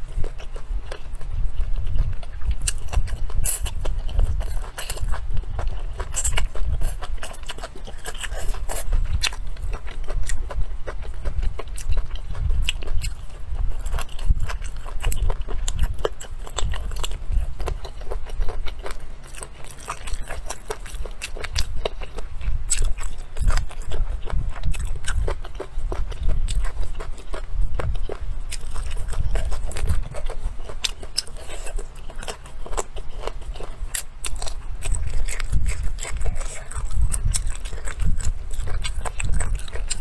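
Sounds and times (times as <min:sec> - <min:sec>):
person chewing food: 0:00.0 - 0:40.0.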